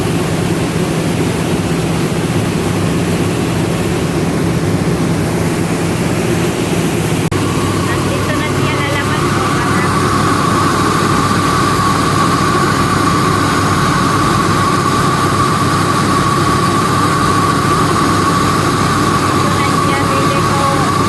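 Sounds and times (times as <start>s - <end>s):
milling machinery droning: 0.0s - 21.0s.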